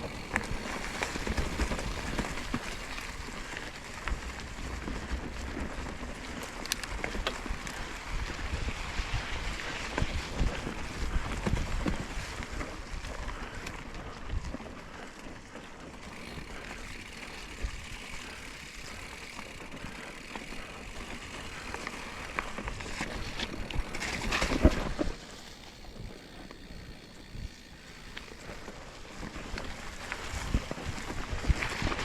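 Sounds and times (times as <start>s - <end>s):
bike rattling over rocks: 0.0s - 32.0s
bike tyres rolling: 0.0s - 32.0s.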